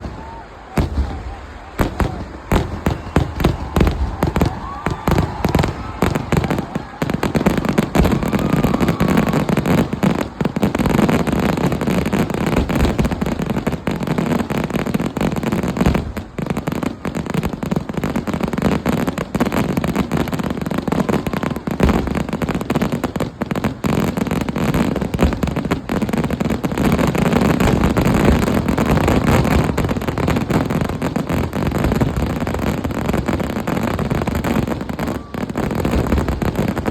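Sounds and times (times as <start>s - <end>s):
fireworks bangs: 0.0s - 36.9s.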